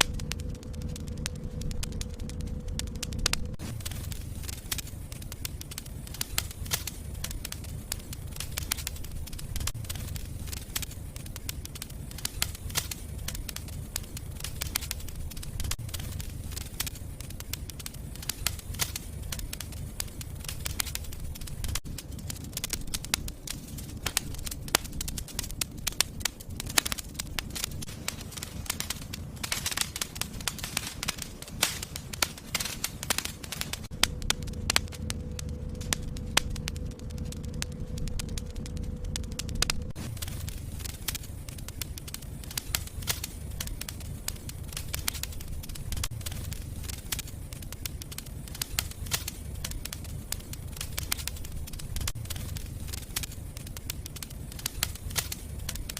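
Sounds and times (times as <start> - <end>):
low rumble of flames: 0.0 - 55.9
wood fire crackling and popping: 0.0 - 55.9.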